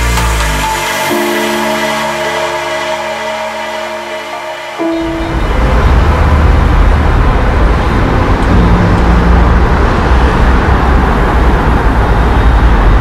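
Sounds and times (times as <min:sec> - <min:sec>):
heavy road traffic rumble: 0:00.0 - 0:13.0.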